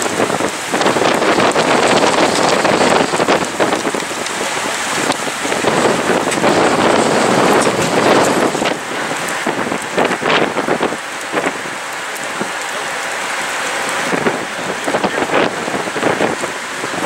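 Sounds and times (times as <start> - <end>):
rain spattering: 0.0 - 17.0
wind gusting on microphone: 0.0 - 17.0.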